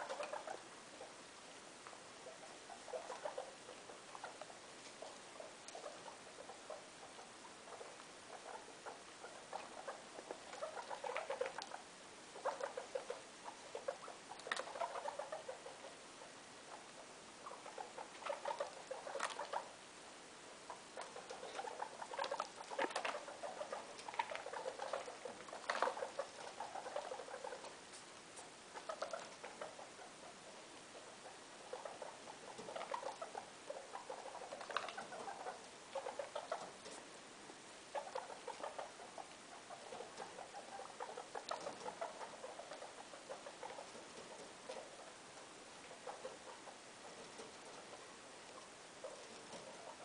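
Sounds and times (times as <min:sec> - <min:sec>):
guinea pigs scurrying in hay: 0:00.0 - 0:19.8, 0:20.6 - 0:37.2, 0:37.9 - 0:50.0.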